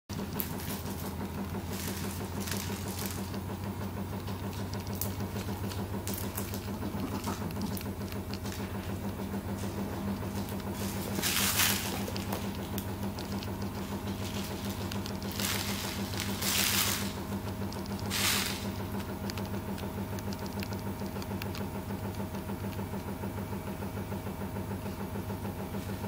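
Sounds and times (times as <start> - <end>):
steady low hum: 0.1 - 26.0.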